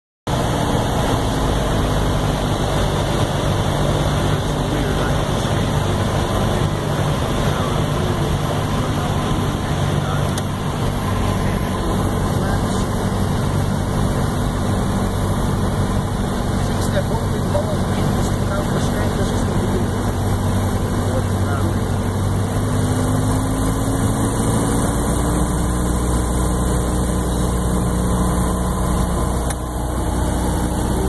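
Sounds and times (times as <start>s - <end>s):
airplane engine and propeller droning: 0.3s - 31.0s.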